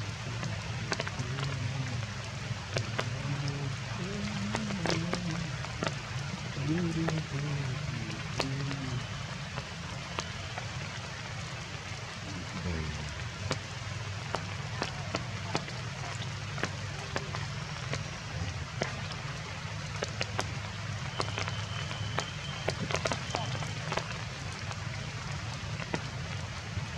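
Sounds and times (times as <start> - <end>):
heavy rain falling: 0.0 - 26.9
sharp raindrops striking close by: 0.0 - 26.9.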